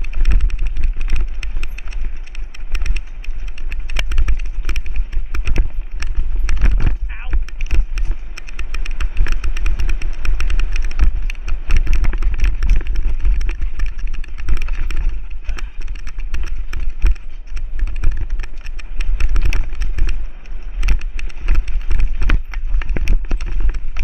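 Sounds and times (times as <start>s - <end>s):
bike clattering over rocks: 0.0s - 24.0s
wind buffeting microphone: 0.0s - 24.0s.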